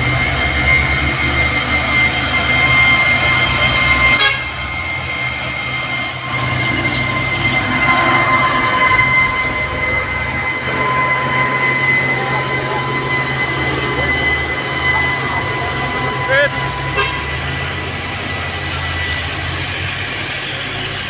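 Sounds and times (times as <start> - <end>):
diesel trucks climbing: 0.0 - 21.0
high-pitched whine: 0.0 - 21.0.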